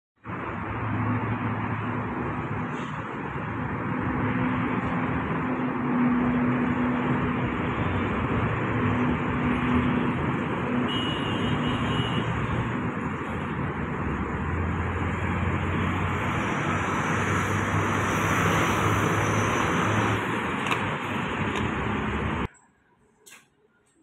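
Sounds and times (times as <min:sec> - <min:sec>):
passing traffic: 0:00.2 - 0:24.0.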